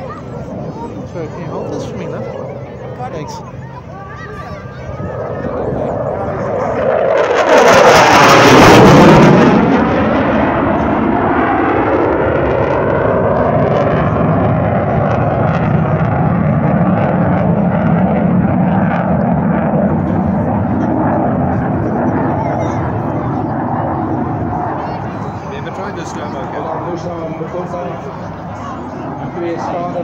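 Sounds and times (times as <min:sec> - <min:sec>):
fighter jet passing: 0:00.0 - 0:30.0.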